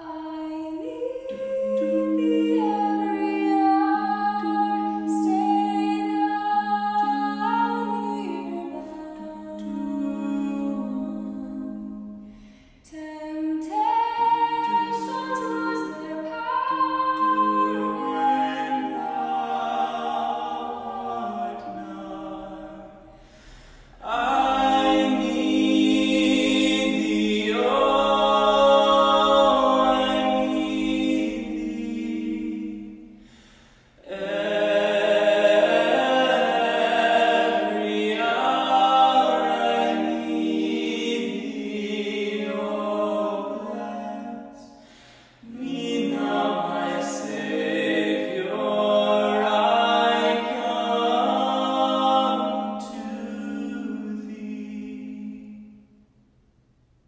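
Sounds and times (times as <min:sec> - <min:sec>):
people singing a cappella harmony: 0:00.0 - 0:56.0.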